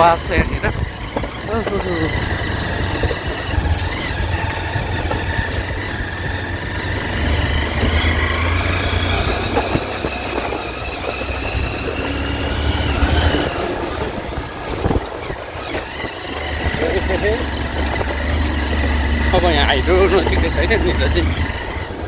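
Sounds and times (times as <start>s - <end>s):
motorcycle engine low rumble: 0.0s - 22.0s.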